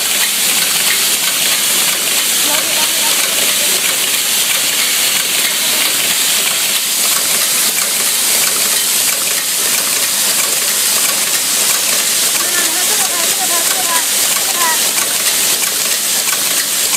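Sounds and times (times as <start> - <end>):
machine hissing: 0.0 - 16.9.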